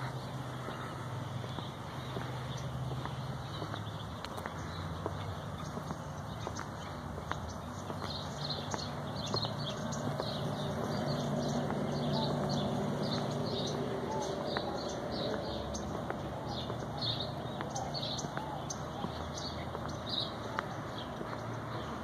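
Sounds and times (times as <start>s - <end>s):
footsteps: 0.0s - 22.0s
small birds chirping: 0.0s - 22.0s.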